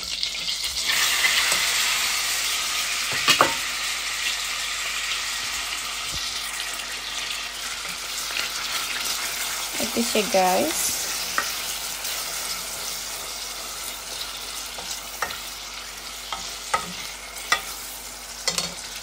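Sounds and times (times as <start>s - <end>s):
meat sizzling in butter: 0.0s - 19.0s.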